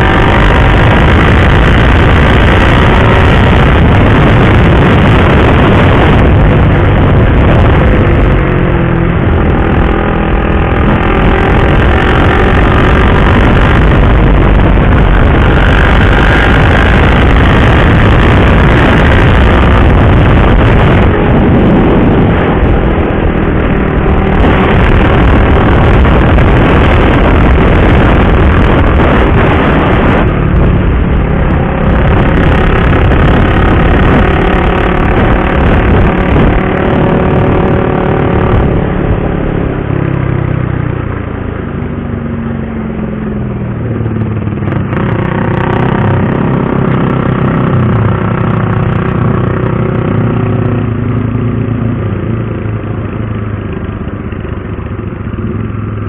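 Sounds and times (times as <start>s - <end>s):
motorcycle engine revving: 0.0s - 56.0s
wind rush over microphone: 0.0s - 56.0s.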